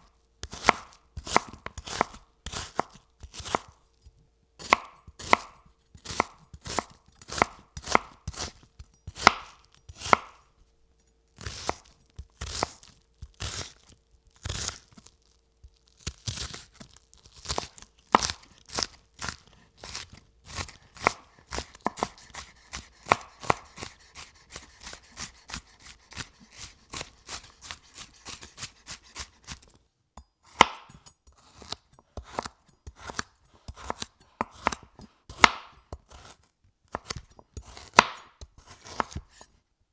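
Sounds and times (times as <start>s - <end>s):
knife chopping on cutting board: 0.4s - 3.8s, 4.6s - 10.4s, 11.4s - 14.9s, 16.0s - 29.8s, 30.4s - 39.5s.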